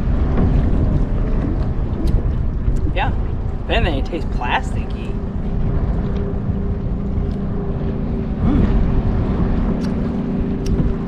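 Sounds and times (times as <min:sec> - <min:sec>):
motorboat engine droning: 0:00.0 - 0:11.0
wind on microphone: 0:00.0 - 0:11.0.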